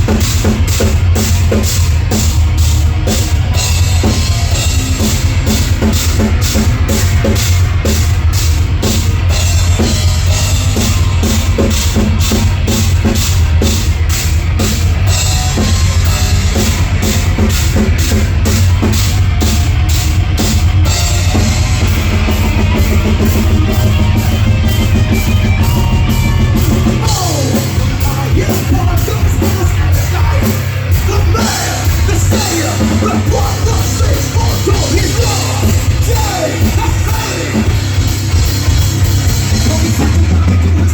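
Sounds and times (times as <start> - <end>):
fast drum beat: 0.0 - 40.9
heavy metal band playing: 0.0 - 40.9.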